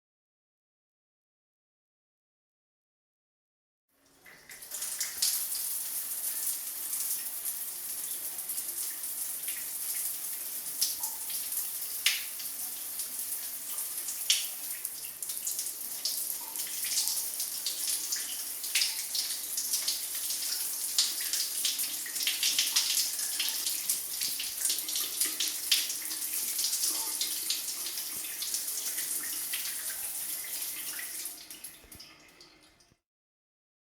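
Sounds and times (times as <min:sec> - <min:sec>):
water splashes and drips: 0:04.0 - 0:33.0.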